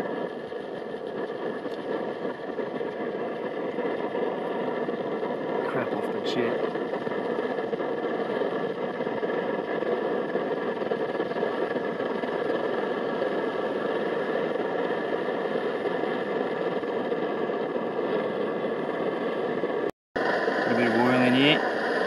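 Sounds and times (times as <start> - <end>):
stove burner rushing: 0.0 - 22.0.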